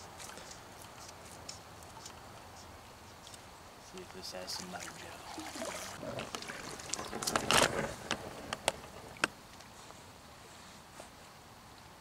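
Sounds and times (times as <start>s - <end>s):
shallow stream flowing: 0.0s - 10.4s.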